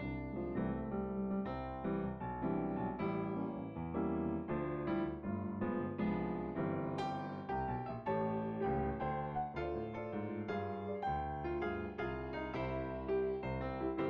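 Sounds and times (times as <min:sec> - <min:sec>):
piano playing steady notes: 0:00.0 - 0:14.0.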